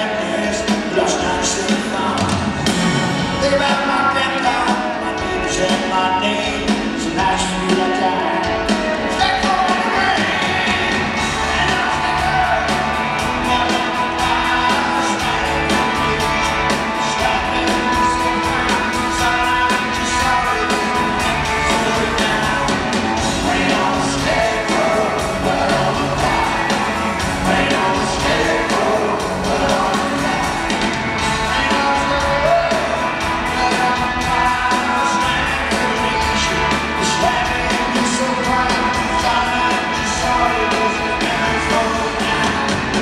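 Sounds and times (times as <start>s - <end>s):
drum kit beat: 0.0s - 43.0s
electric and acoustic guitars: 0.0s - 43.0s
rock band playing: 0.0s - 43.0s.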